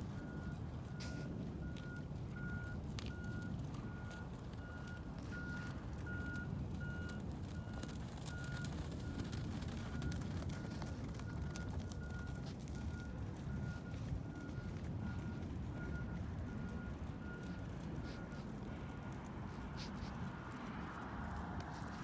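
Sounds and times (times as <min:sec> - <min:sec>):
vehicle reversing alarm beeping: 0:00.0 - 0:21.0.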